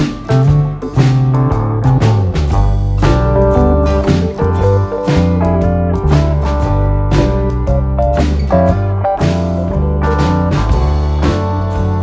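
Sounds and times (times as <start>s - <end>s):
instrumental music with guitar and beat: 0.0s - 12.0s.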